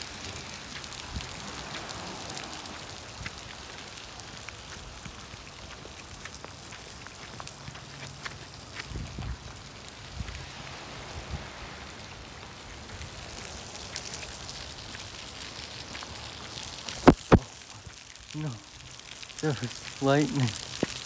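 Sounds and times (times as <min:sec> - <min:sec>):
rain on wet pavement: 0:00.0 - 0:21.0.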